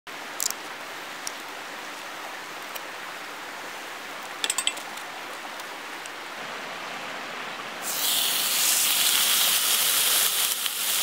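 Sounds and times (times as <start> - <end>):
mountain stream rushing: 0.1 - 11.0.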